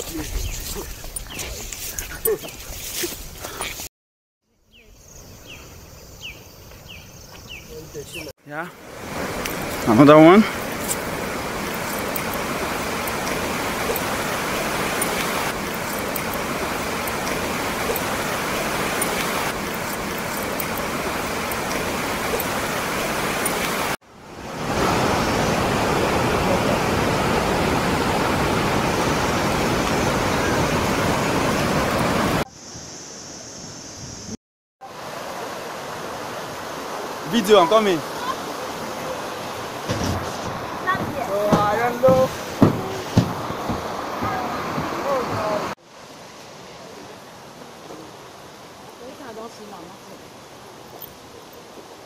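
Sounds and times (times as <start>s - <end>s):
stream and waterfall rushing: 6.9s - 52.0s.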